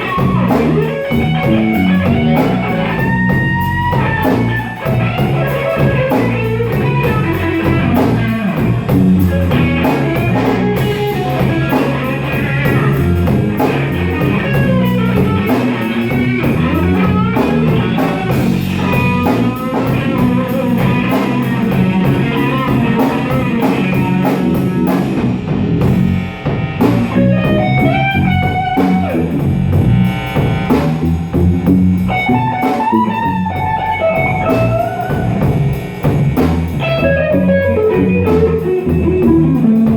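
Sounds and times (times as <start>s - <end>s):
bass: 0.0s - 39.9s
drum kit: 0.0s - 39.9s
electric guitar lead lines: 0.0s - 39.9s.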